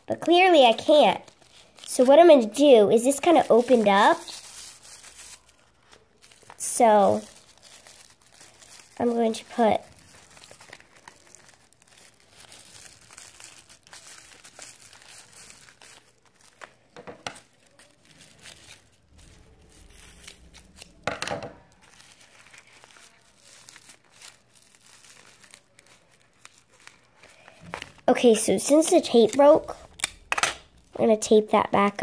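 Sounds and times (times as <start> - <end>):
plastic bag and paper crinkling: 0.0 - 32.0.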